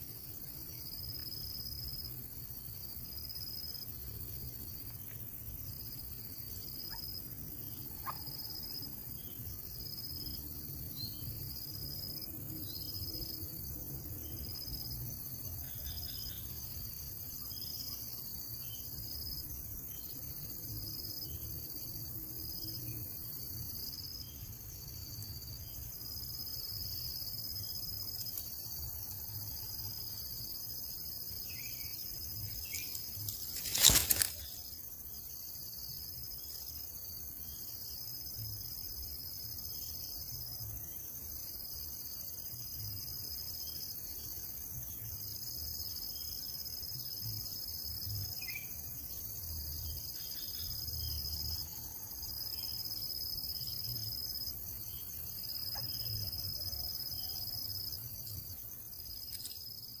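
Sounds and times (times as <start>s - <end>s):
insects trilling: 0.0s - 60.0s.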